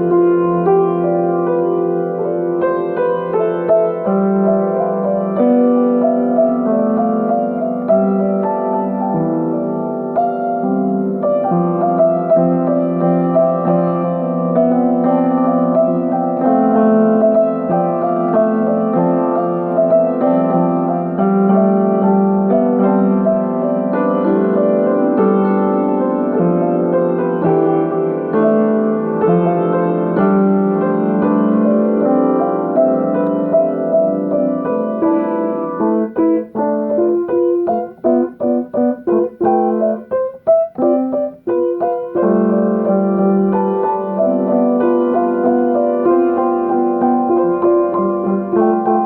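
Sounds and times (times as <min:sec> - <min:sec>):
solo piano improvising: 0:00.0 - 0:49.0.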